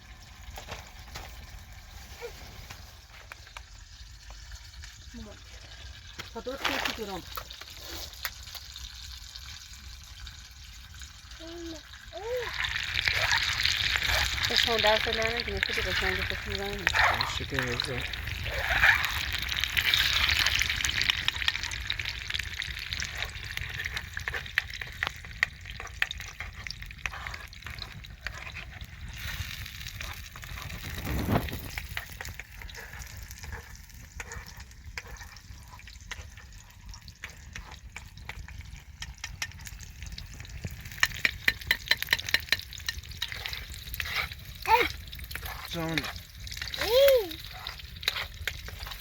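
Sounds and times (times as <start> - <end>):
food sizzling in a pan: 0.0 - 49.0.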